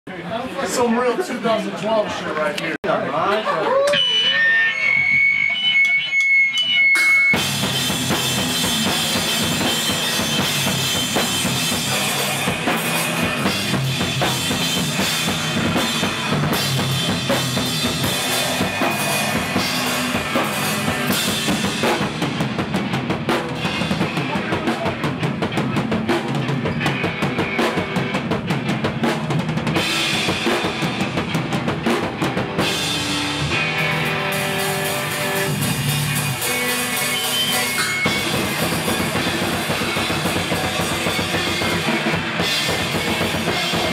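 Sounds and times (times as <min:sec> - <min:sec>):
live rock band playing: 0:03.4 - 0:43.9
drum kit: 0:03.9 - 0:43.9.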